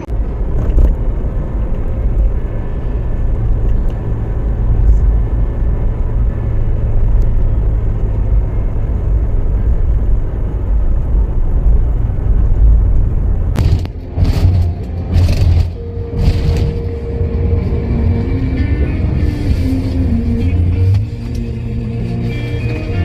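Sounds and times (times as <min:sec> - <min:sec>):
road noise: 0:00.0 - 0:23.0
vehicle engine rumble: 0:00.0 - 0:23.0.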